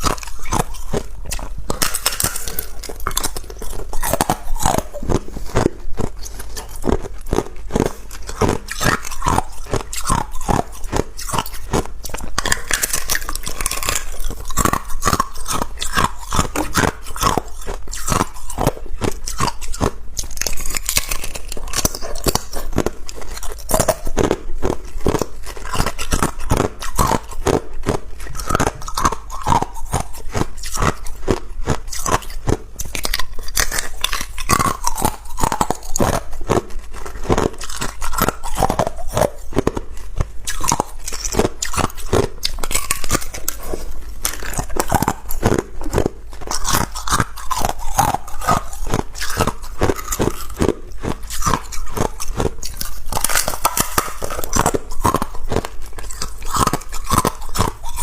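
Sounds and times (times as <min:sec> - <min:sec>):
person crunching ice: 0:00.0 - 0:58.0.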